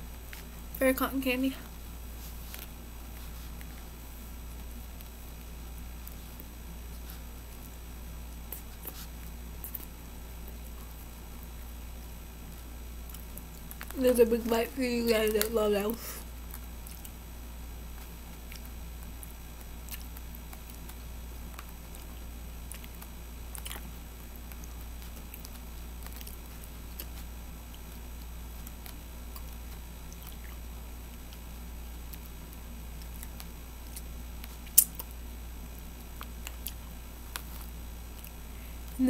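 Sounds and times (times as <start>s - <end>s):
low steady hum: 0.0s - 39.0s
quiet chewing with mouth clicks: 1.6s - 14.0s, 15.2s - 39.0s.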